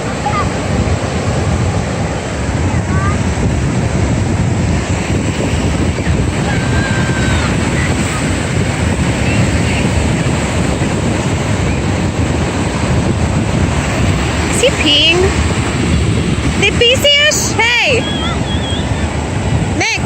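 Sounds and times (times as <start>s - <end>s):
ocean surf: 0.0s - 20.0s
wind buffeting microphone: 0.0s - 20.0s.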